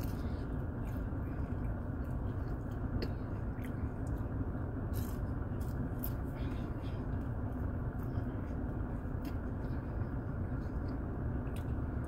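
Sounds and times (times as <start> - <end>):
person chewing fries: 0.0 - 12.0.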